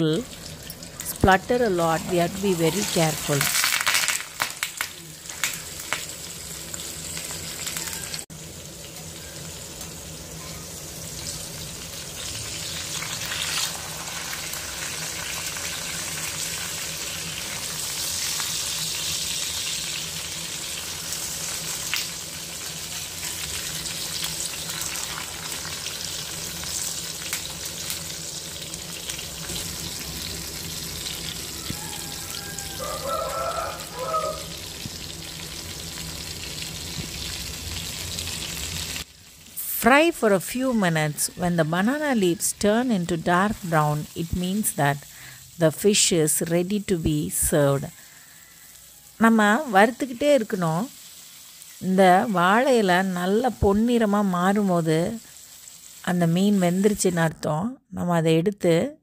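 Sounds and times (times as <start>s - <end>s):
leaves crackling in hot oil: 0.0s - 57.3s
oil sizzling: 0.0s - 57.4s.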